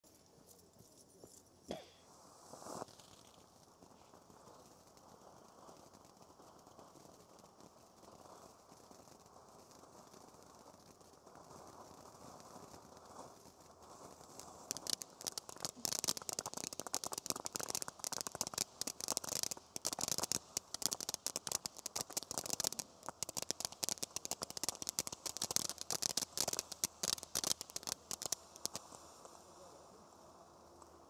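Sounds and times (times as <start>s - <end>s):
firework fountain crackling: 0.0s - 31.0s.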